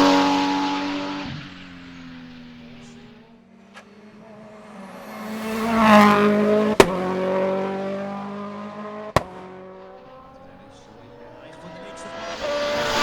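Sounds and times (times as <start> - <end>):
race car passing at speed: 0.0 - 13.0.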